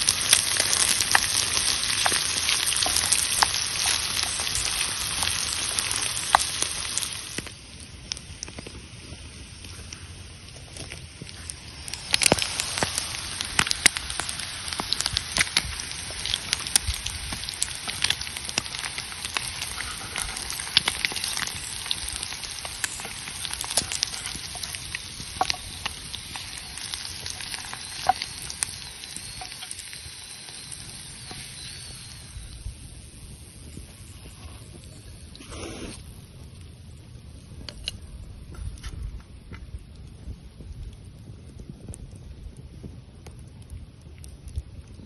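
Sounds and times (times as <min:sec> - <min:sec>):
food sizzling in a pan: 0:00.0 - 0:36.3
sharp pops and crackles: 0:00.0 - 0:36.8, 0:37.4 - 0:45.0.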